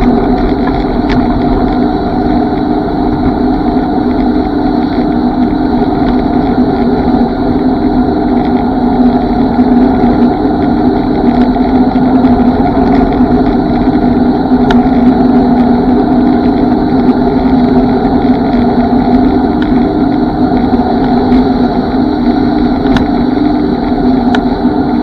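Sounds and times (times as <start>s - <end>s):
road and wind noise: 0.0s - 25.0s
small vehicle motor running: 0.0s - 25.0s.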